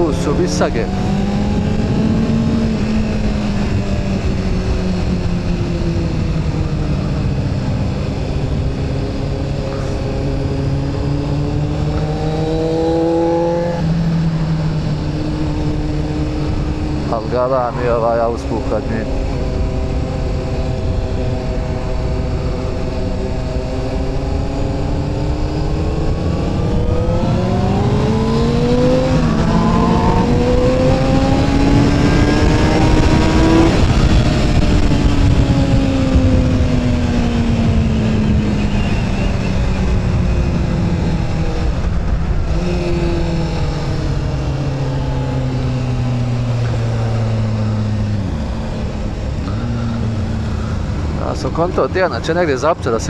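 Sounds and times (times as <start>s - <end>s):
motorcycle engine accelerating: 0.0s - 53.0s
wind noise: 0.0s - 53.0s.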